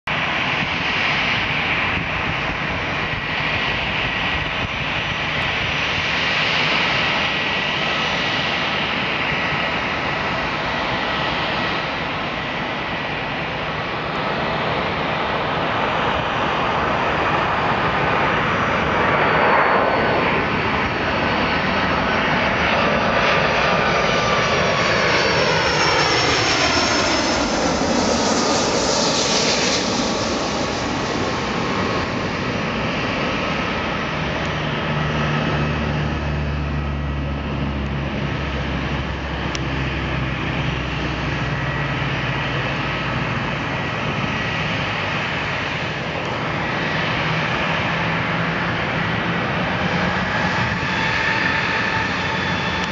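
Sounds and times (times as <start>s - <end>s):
jet airliner engine whine passing overhead: 0.1s - 52.9s.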